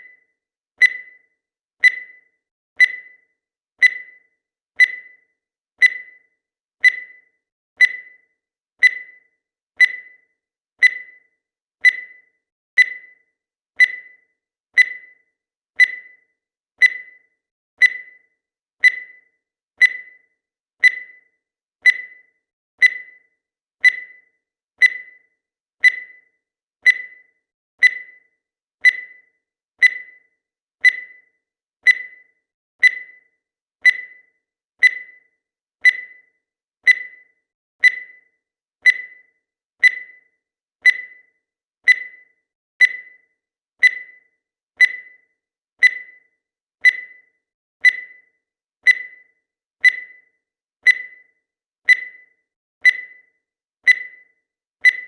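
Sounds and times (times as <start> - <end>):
timer electronic tick: 0.0 - 55.0.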